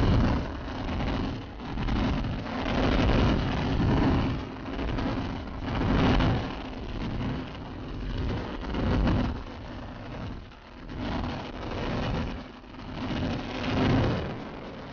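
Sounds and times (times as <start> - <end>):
wind rushing on microphone: 0.0 - 14.9.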